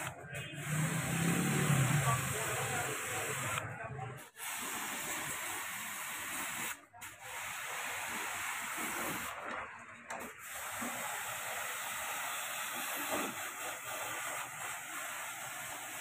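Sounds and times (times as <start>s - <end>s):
pressure washer jet hissing: 0.0s - 9.4s, 10.2s - 16.0s.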